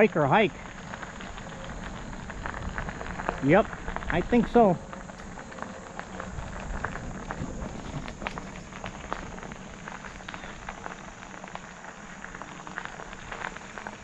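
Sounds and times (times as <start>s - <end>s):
bicycle tyres rolling on trail: 0.0s - 14.0s.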